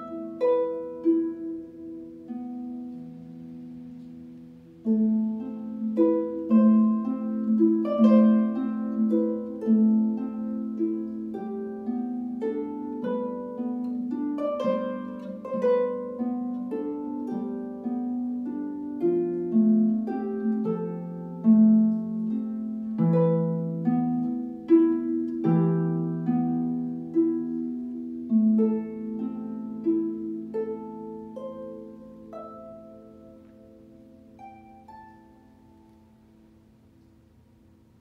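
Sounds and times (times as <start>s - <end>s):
harp being plucked: 0.0s - 38.0s.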